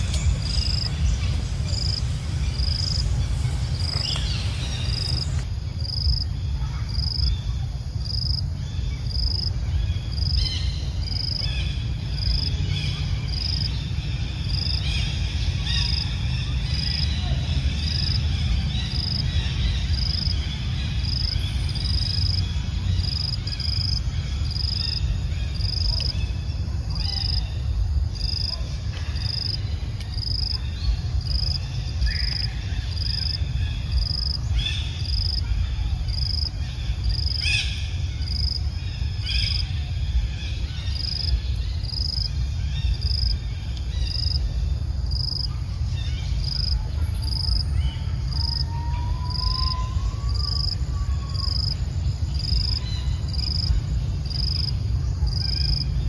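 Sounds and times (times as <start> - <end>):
constant low rumble: 0.0 - 56.0
insect chirping: 0.0 - 56.0.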